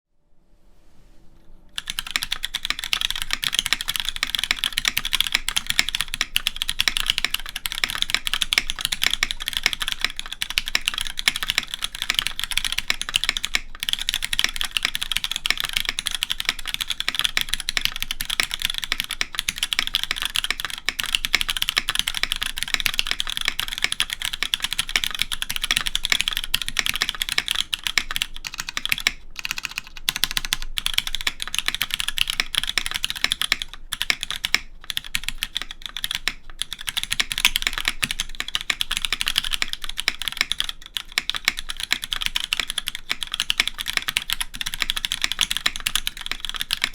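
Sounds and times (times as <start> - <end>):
fast mechanical keyboard typing: 1.8 - 46.9.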